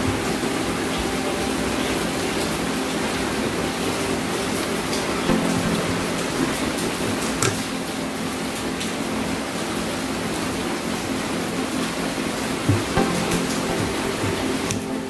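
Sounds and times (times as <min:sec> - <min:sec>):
hissing room noise: 0:00.0 - 0:15.0.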